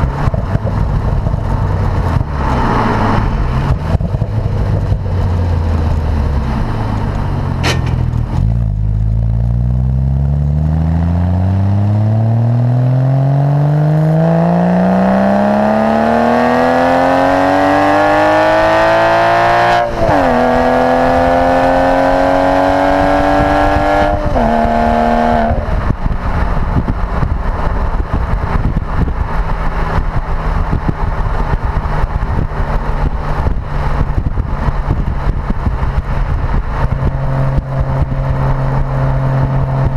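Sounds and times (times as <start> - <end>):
road and wind noise: 0.0 - 39.9
sports car engine accelerating: 0.0 - 39.9.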